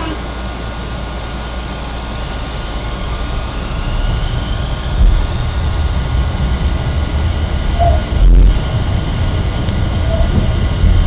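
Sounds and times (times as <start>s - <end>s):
faint rising whine: 0.0s - 11.0s
tram wheels rumbling on rail: 0.0s - 11.0s.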